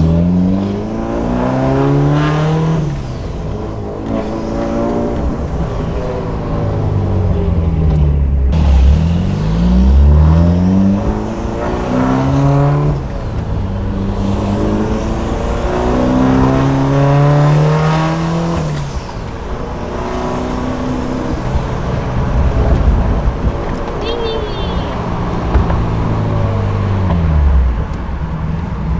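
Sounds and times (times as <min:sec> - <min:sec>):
car engine accelerating: 0:00.0 - 0:28.9.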